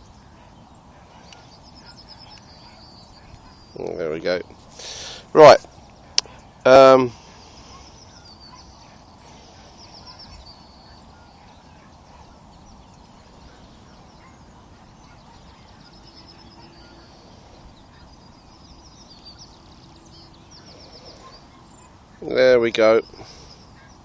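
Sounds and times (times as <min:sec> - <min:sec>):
faint outdoor background: 0:00.0 - 0:24.0
small birds trilling: 0:00.0 - 0:24.0.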